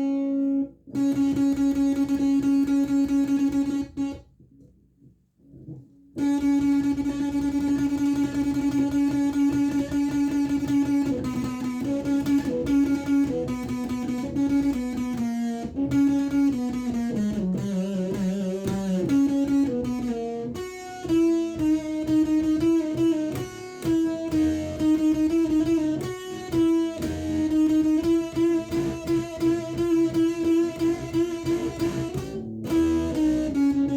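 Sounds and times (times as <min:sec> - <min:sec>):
fuzz electric guitar solo: 0:00.0 - 0:04.2, 0:06.2 - 0:33.9.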